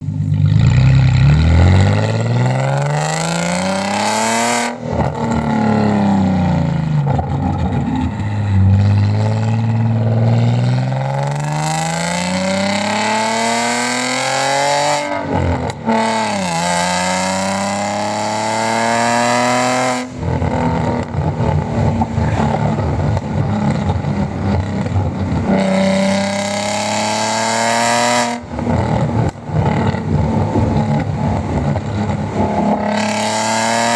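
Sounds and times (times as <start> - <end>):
car engine revving through gears: 0.4 - 33.9.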